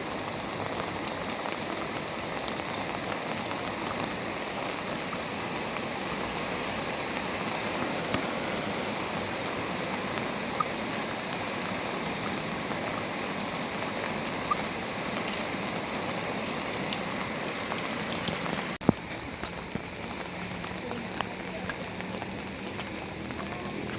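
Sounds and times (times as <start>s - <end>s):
rain pattering: 0.0s - 23.9s.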